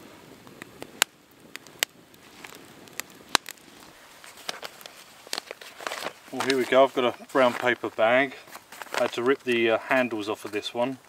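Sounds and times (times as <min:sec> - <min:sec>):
campfire crackling: 0:00.0 - 0:11.0
fire popping: 0:00.0 - 0:11.0.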